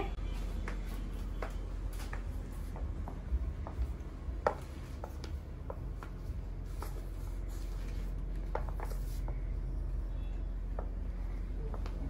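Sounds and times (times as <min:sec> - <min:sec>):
low room hum: 0:00.0 - 0:12.0
footsteps on tiled floor: 0:00.2 - 0:09.6, 0:10.7 - 0:12.0.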